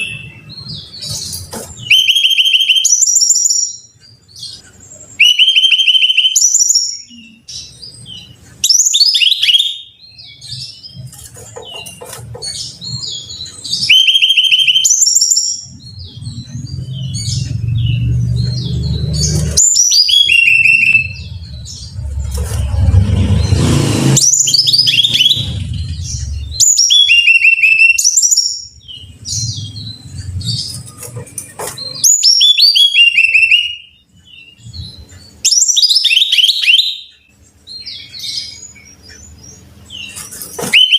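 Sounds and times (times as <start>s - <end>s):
bird singing high phrases: 0.0s - 40.9s.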